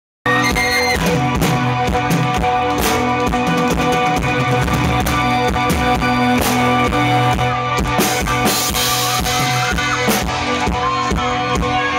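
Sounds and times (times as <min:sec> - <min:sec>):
drum kit beat: 0:00.3 - 0:11.9
guitars: 0:00.3 - 0:11.9.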